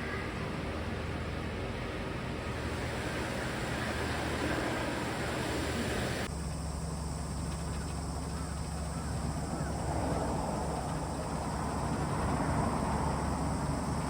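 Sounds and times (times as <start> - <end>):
exhaust fan humming: 0.0 - 14.0.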